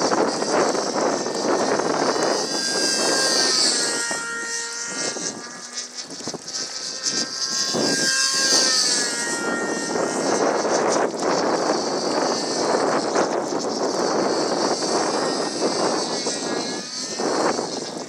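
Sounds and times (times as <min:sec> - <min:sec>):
model plane engine and propeller: 0:00.0 - 0:18.0
wind noise on microphone: 0:00.0 - 0:18.0.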